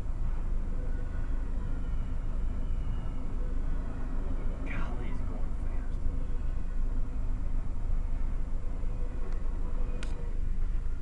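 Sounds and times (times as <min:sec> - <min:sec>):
freight train cars rumbling past: 0:00.0 - 0:11.0.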